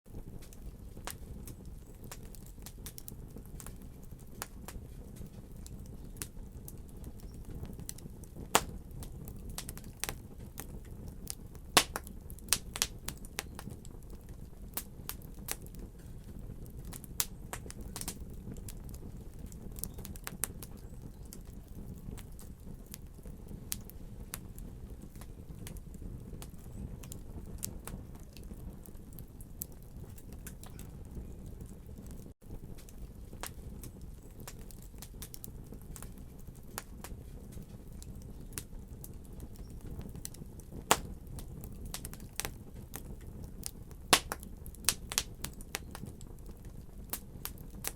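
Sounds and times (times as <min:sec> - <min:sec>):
fire crackling and popping: 0:00.1 - 0:47.9
fire rumbling: 0:00.1 - 0:47.9.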